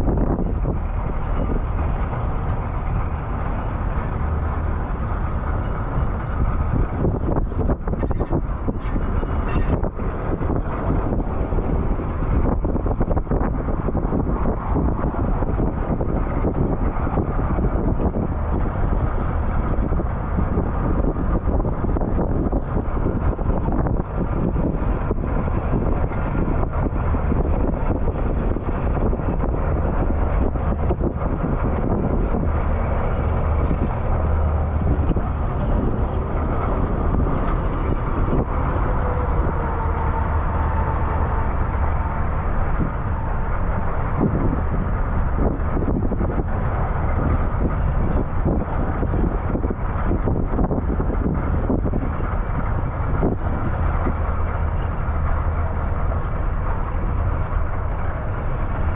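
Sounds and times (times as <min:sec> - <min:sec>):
vehicle rumble: 0:00.0 - 0:58.9.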